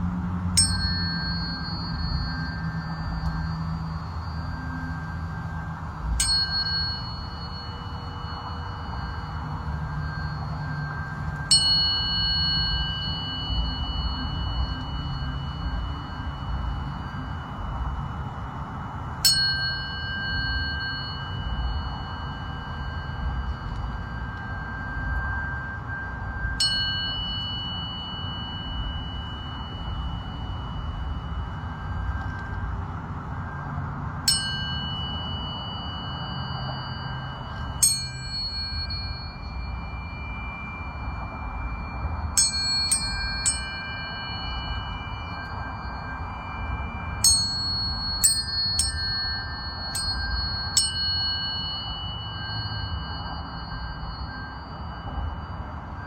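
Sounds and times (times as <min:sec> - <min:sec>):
tuning forks ringing: 0:00.0 - 0:56.0.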